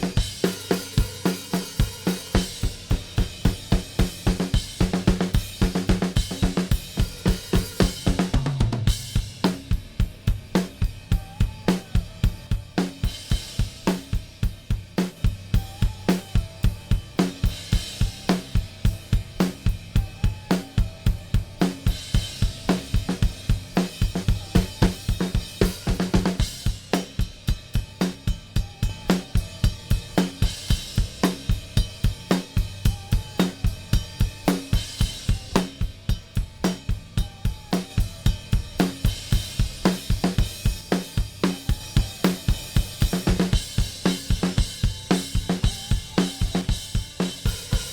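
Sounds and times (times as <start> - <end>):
drum kit playing steady beat: 0.0 - 47.9.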